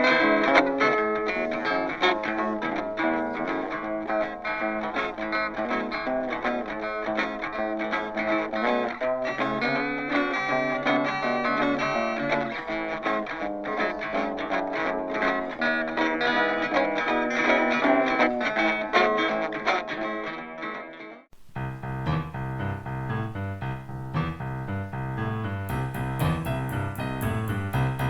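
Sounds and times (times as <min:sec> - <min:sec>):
guitar background music: 0:00.0 - 0:28.0.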